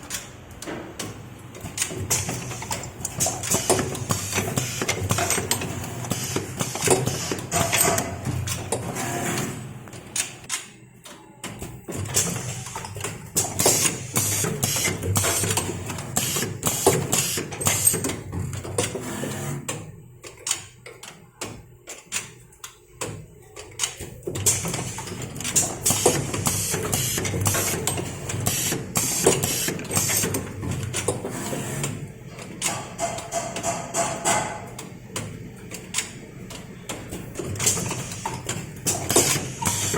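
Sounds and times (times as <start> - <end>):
machine clicks and clacks: 0.0 - 39.9.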